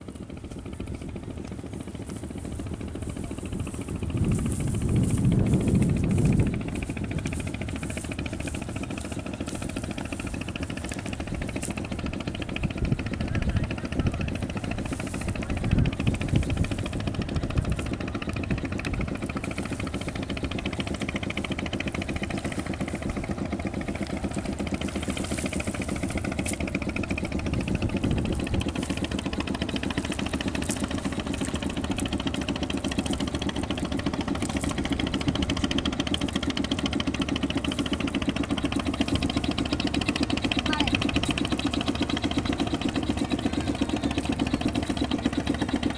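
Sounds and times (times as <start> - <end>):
small engine running: 0.0 - 45.9.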